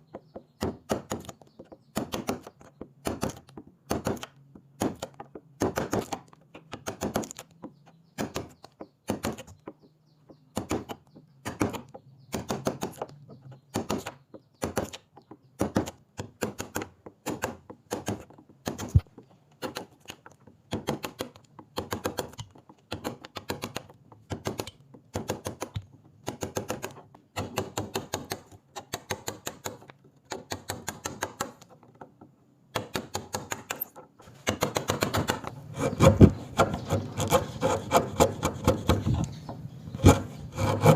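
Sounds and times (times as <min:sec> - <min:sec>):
tool tapping on wood: 0:00.0 - 0:40.9.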